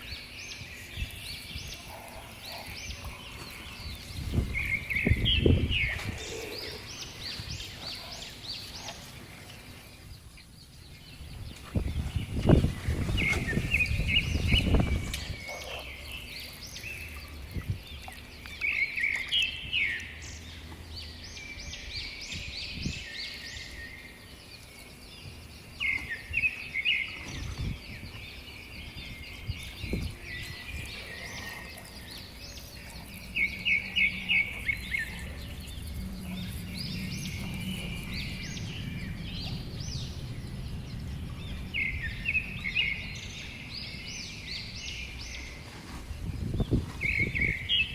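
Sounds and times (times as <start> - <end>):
birds singing and chirping: 0.0 - 47.9
low steady hum: 0.0 - 47.9.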